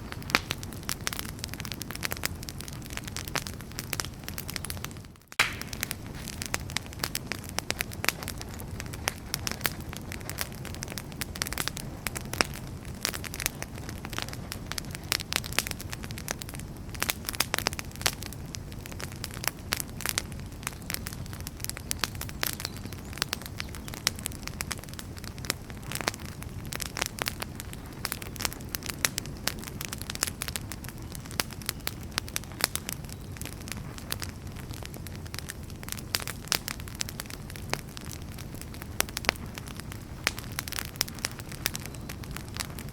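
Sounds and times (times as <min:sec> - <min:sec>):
firewood crackling and popping: 0:00.0 - 0:42.9
wood fire rumbling: 0:00.0 - 0:42.9.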